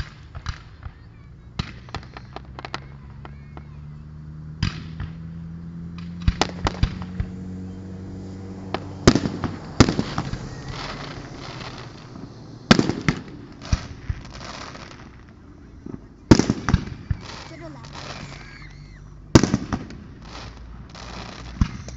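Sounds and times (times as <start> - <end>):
fireworks bangs and crackling: 0.0 - 21.9.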